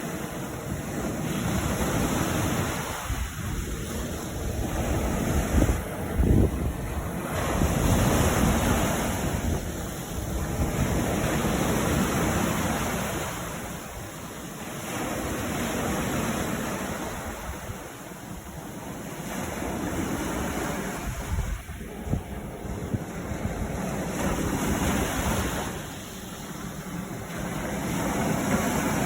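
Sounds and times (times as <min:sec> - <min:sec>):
waves breaking on beach: 0:00.0 - 0:29.0
wind on microphone: 0:00.0 - 0:29.0.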